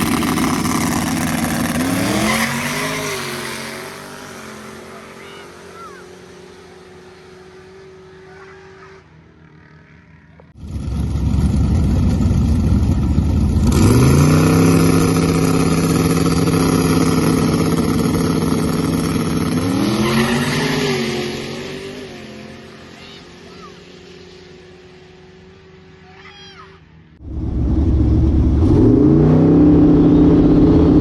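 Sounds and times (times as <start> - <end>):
drag race car engine: 0.0 - 26.1, 27.2 - 31.0.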